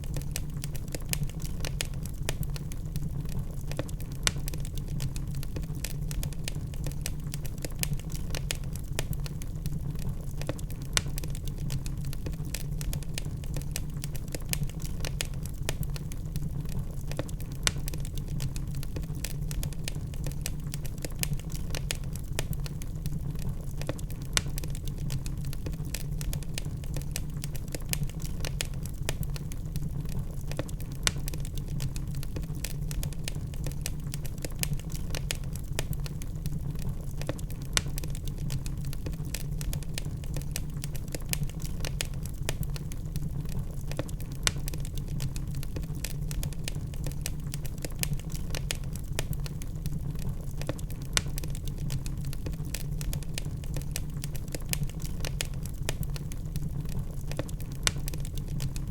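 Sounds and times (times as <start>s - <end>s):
log fire crackling and popping: 0.0s - 58.9s.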